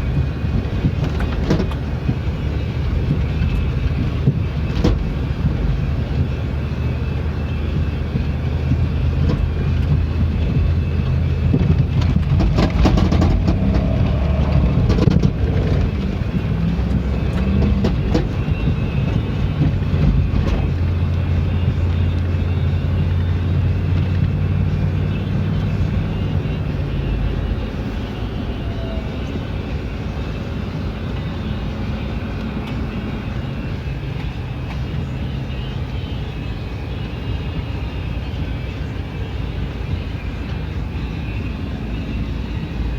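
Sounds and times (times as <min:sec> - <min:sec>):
car engine running while driving: 0:00.0 - 0:42.9
road noise: 0:00.0 - 0:42.9.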